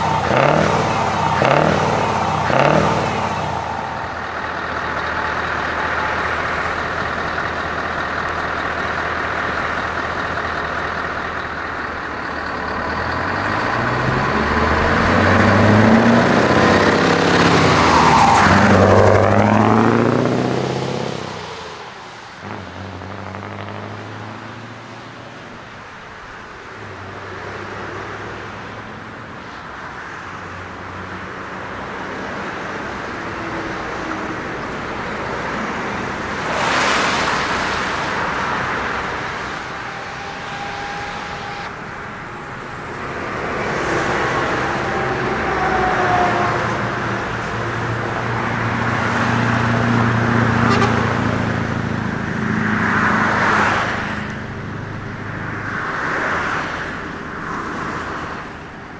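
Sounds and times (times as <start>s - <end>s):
diesel truck engine revving: 0.0s - 25.7s, 31.4s - 56.3s
truck driving past: 0.0s - 25.7s, 30.7s - 58.8s
traffic noise: 0.0s - 58.9s.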